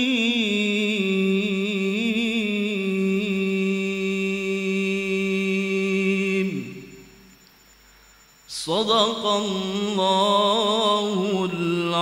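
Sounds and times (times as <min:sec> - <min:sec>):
person reciting melodically: 0:00.0 - 0:07.2, 0:08.5 - 0:12.0.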